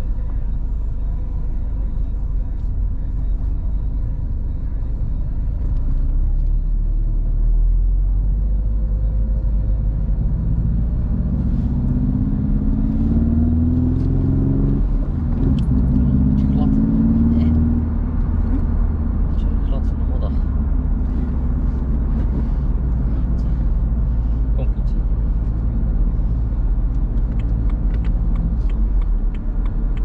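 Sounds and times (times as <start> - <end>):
car engine accelerating: 0.0 - 30.0
road rumble: 0.0 - 30.0.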